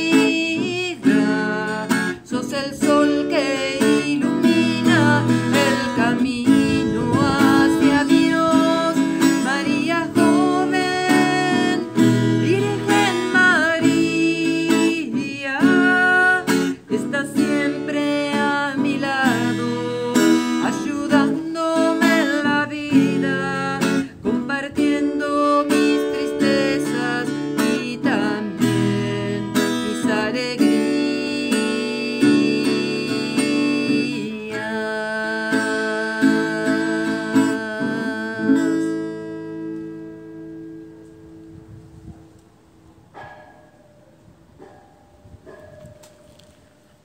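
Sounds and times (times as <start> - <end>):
woman singing: 0.0 - 40.2
acoustic guitar strumming: 0.0 - 47.0.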